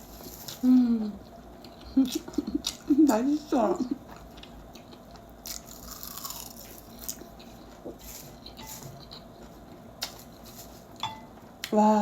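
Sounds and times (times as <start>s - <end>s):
crunching and chewing: 0.0s - 3.1s, 4.0s - 11.7s.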